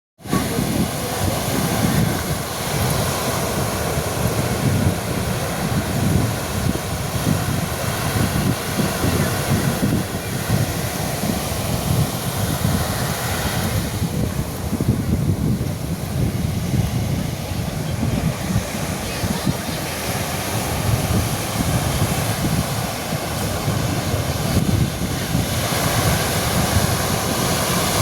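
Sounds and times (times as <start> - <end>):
waves breaking on beach: 0.2 - 28.0
wind rumble on microphone: 0.2 - 28.0.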